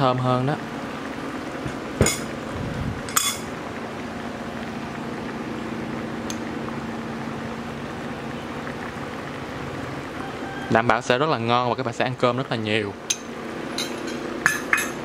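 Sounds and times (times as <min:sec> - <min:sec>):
liquid bubbling in a pot: 0:00.0 - 0:15.0.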